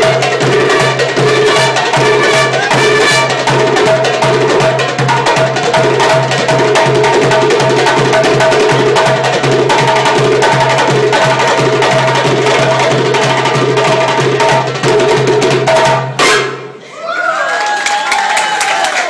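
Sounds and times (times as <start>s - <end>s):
percussion group drumming: 0.0s - 16.8s.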